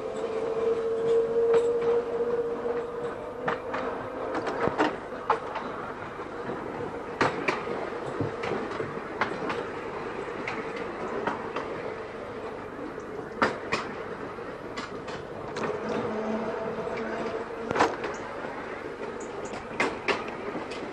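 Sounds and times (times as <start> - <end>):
electric tram whine: 0.0 - 20.9
wheels clicking over rail joints: 0.0 - 20.9.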